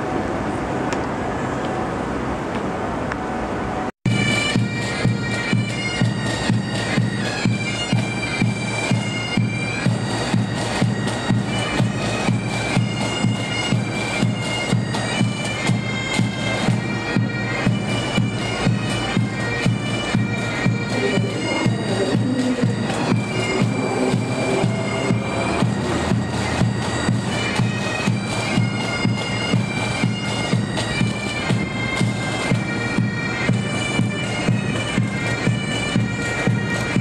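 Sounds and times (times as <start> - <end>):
bagpipe melody with drone: 4.1 - 37.0
marching drums beating: 4.1 - 37.0.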